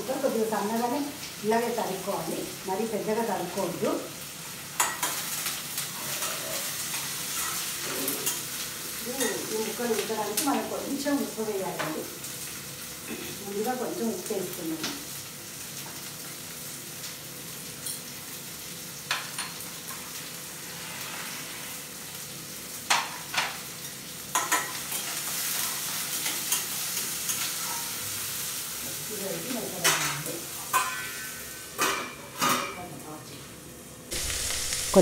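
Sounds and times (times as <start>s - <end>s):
vegetables sizzling in hot oil: 0.0s - 31.8s, 33.8s - 35.0s.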